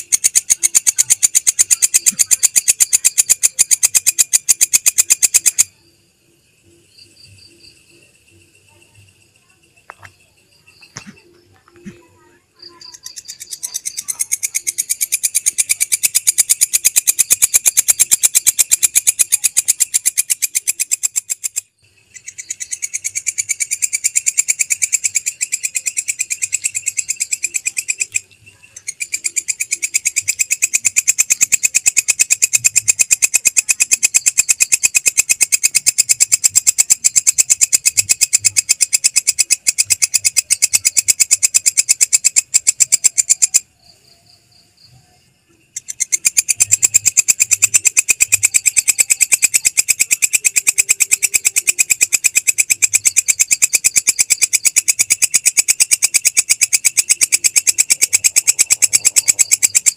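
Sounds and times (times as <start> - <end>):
grasshopper chirring: 0.0 - 59.9.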